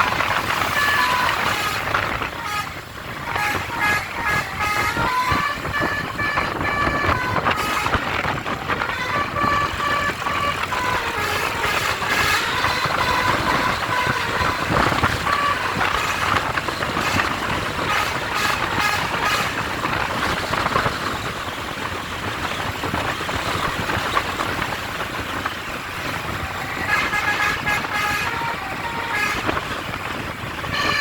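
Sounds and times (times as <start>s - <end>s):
multi-tone vehicle horn tooting: 0.0s - 20.5s, 26.0s - 31.0s.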